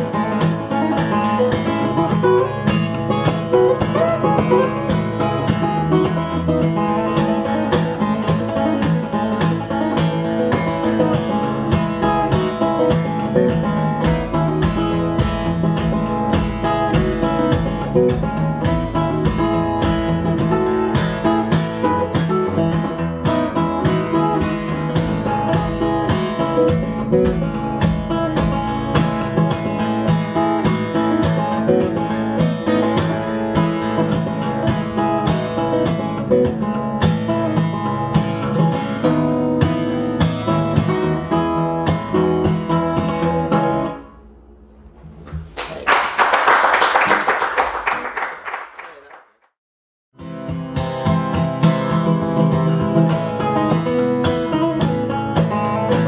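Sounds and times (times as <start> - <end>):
acoustic guitar playing: 0.0 - 48.3, 50.2 - 56.0.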